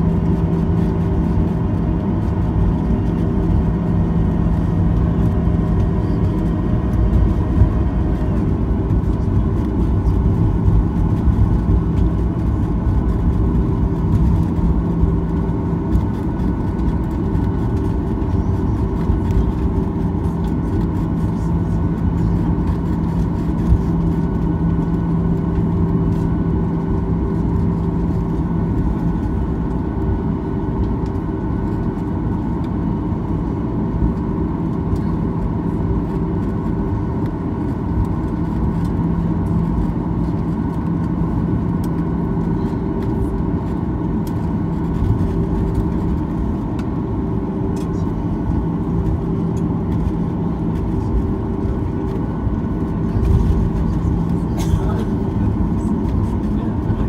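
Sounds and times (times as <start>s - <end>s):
aircraft cabin rushing noise: 0.0s - 57.0s.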